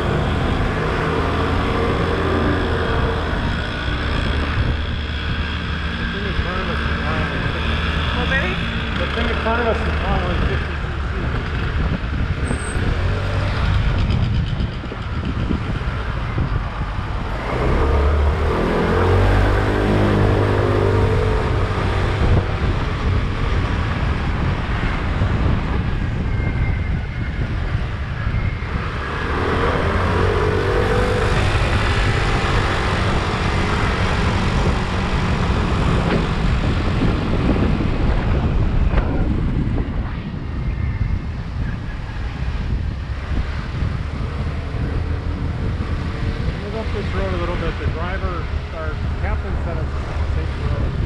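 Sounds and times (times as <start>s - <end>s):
wind and road noise: 0.0s - 51.0s.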